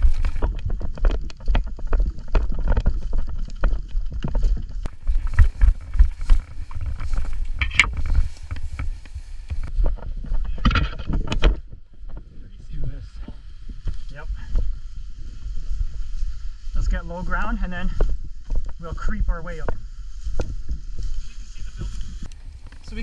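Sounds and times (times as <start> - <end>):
running footsteps through dry grass: 0.0 - 10.7, 13.0 - 23.0
wind buffeting microphone: 0.0 - 23.0.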